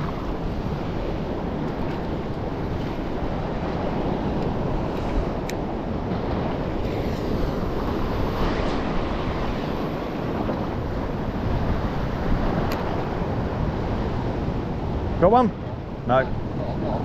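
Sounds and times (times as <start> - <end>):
sea surf against rocks: 0.0 - 17.0
wind buffeting microphone: 0.0 - 17.0.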